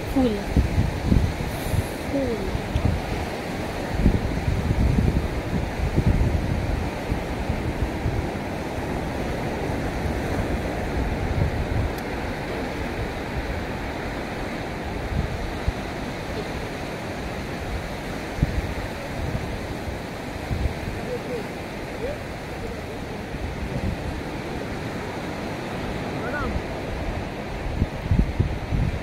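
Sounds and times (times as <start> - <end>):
sea surf hissing: 0.0 - 28.8
wind gusting on microphone: 0.0 - 29.0.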